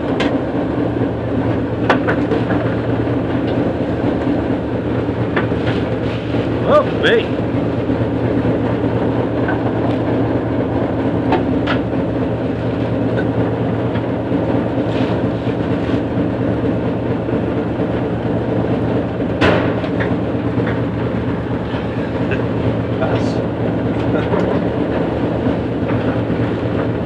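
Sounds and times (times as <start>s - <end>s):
ship engine drone: 0.0s - 27.0s.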